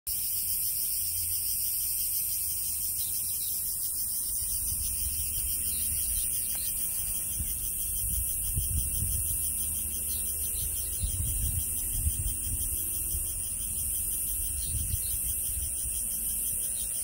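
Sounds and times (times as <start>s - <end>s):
cicadas buzzing: 0.1s - 17.0s.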